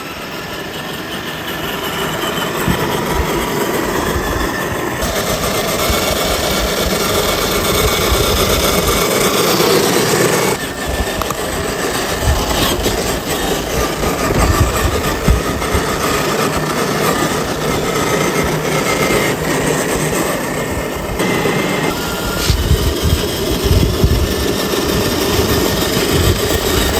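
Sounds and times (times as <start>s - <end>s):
toy car electric motor whirring: 0.0s - 26.9s.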